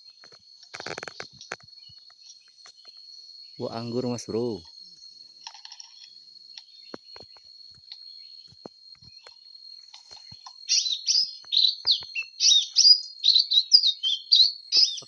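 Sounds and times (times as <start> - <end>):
bird chirping: 0.0 - 15.0
high insect drone: 0.0 - 15.0.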